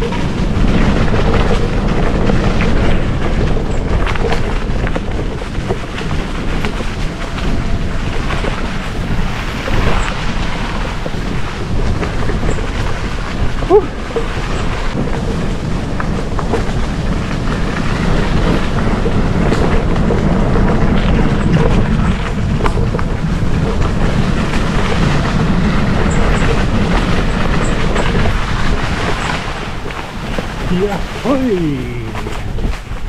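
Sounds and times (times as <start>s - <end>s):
bike tyres rumbling on gravel: 0.0s - 33.0s.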